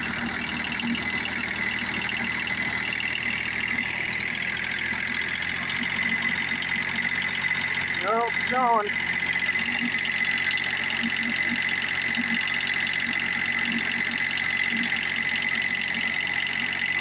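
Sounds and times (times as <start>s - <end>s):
mower engine running: 0.0s - 17.0s
steady high-pitched tone: 0.0s - 17.0s.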